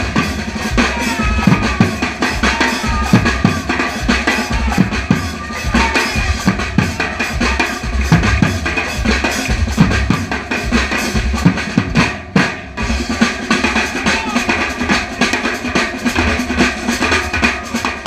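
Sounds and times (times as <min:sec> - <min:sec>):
drums beating fast rhythm: 0:00.0 - 0:18.0.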